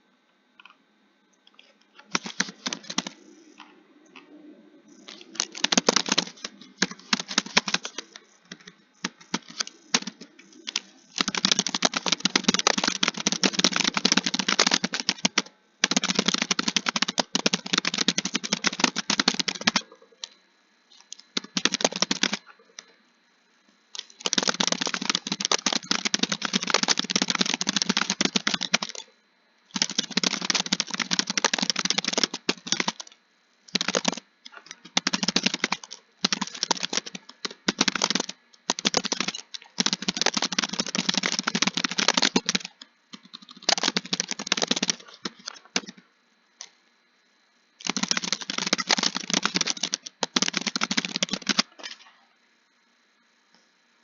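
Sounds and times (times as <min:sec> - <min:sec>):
fast typing on keyboard: 0:02.1 - 0:03.7, 0:05.0 - 0:20.4, 0:21.0 - 0:22.9, 0:24.0 - 0:29.1, 0:29.7 - 0:46.0, 0:47.8 - 0:51.8.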